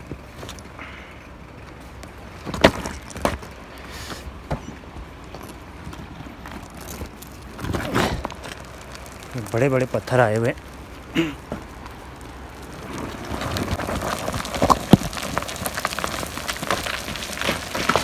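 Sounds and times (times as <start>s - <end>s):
rocks knocking and clattering: 0.0s - 1.0s, 1.6s - 18.0s.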